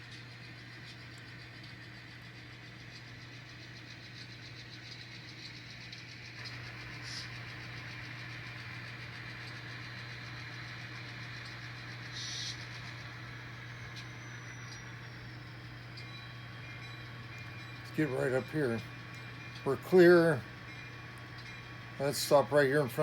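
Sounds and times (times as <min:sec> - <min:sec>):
model locomotive engine sound: 0:00.0 - 0:23.0.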